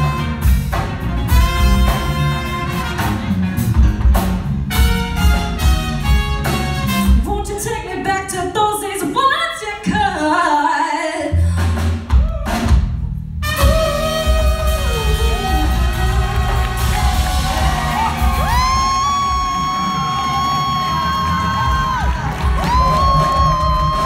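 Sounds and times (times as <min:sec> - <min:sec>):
live pop-jazz band playing: 0:00.0 - 0:24.0.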